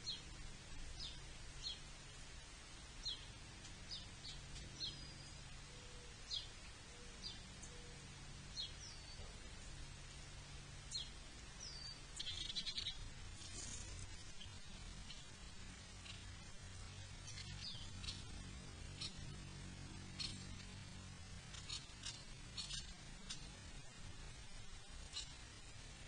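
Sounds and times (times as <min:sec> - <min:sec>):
faint low hum: 0:00.0 - 0:26.0
songbird chip notes: 0:03.0 - 0:10.2, 0:10.9 - 0:25.7.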